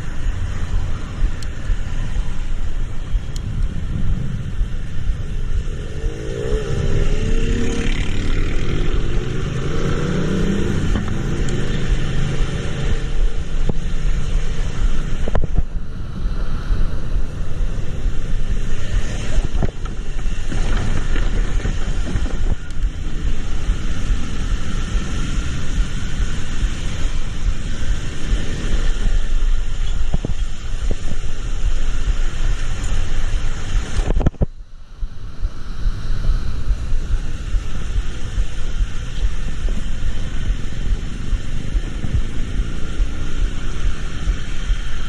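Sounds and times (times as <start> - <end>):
road and wind noise: 0.0 - 45.0
vehicle engine running: 0.0 - 45.0.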